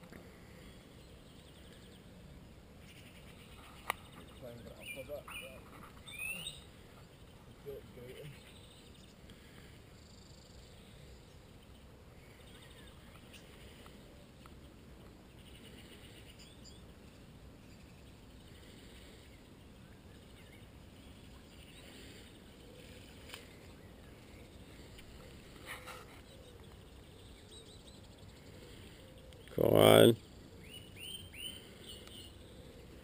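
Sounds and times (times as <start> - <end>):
faint chirping call: 0.3 - 33.0.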